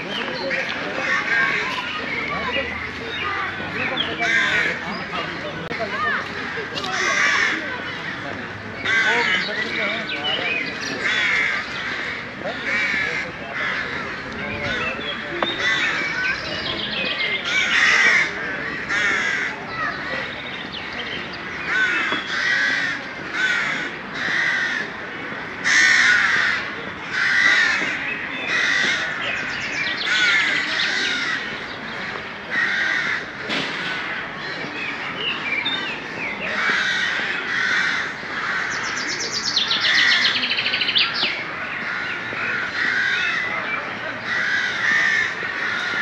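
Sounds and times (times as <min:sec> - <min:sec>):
crows cawing: 0:00.4 - 0:01.8, 0:03.9 - 0:04.8, 0:05.7 - 0:10.1, 0:10.9 - 0:16.4, 0:17.4 - 0:20.2, 0:20.8 - 0:35.9, 0:36.5 - 0:46.0.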